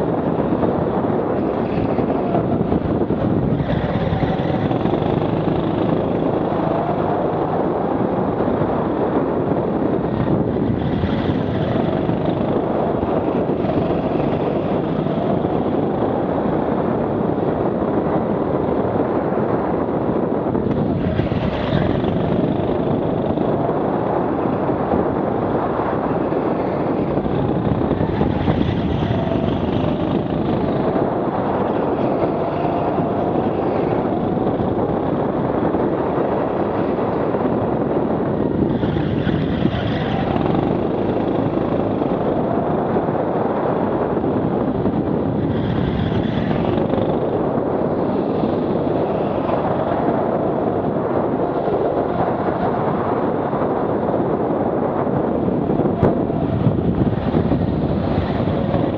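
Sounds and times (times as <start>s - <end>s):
go-kart engine: 0.0s - 53.4s
wind on microphone: 0.0s - 58.9s.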